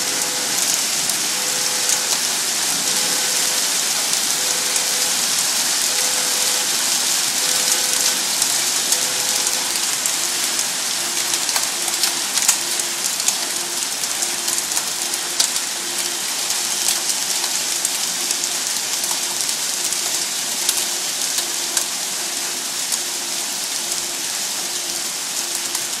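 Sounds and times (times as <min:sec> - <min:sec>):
faint electronic beep: 0:00.0 - 0:26.0
hail and rain pelting down: 0:00.0 - 0:26.0
hailstones clicking on hard surfaces: 0:00.0 - 0:26.0.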